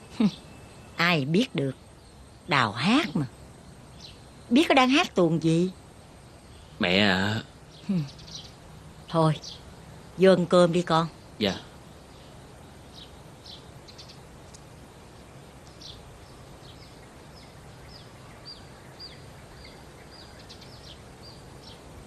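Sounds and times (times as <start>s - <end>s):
faint low background hum: 0.0s - 22.0s
small birds chirping: 0.0s - 22.0s.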